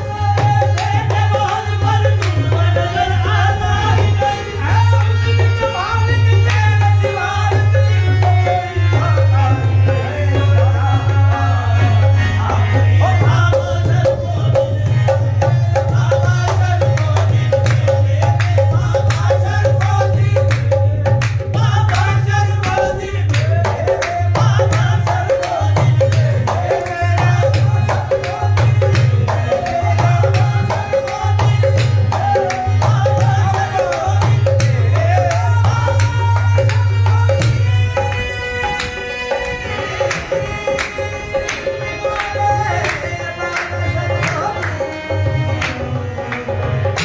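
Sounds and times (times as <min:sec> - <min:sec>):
harmonium: 0:00.0 - 0:47.0
voices singing: 0:00.0 - 0:47.0.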